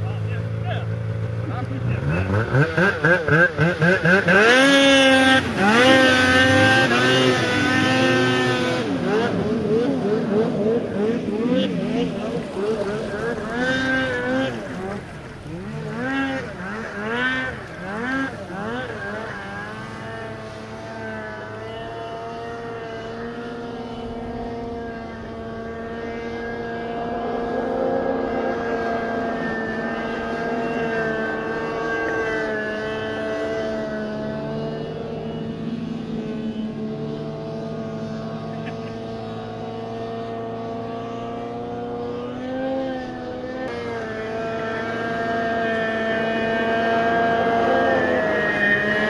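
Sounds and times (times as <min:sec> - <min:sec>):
snowmobile engine at high revs: 0:00.0 - 0:49.0.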